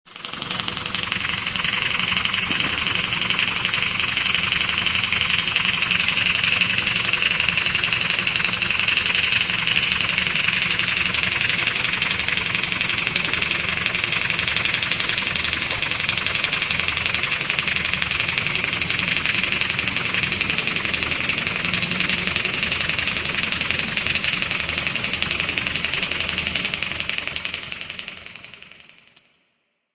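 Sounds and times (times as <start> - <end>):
motor running steadily: 0.0 - 29.2.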